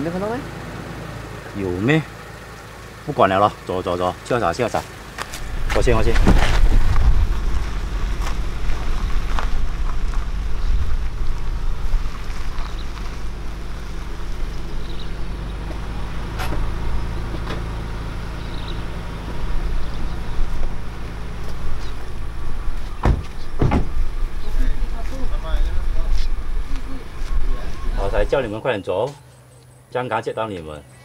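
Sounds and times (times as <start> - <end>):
car engine humming: 0.0 - 30.3.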